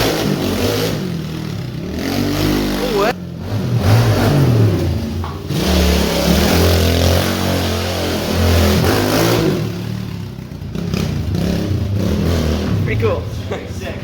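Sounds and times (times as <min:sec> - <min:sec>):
pit bike engine revving: 0:00.0 - 0:14.0.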